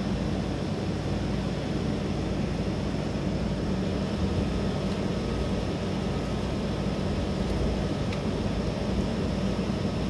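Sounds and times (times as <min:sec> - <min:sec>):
outdoor rumble with hiss: 0:00.0 - 0:10.0.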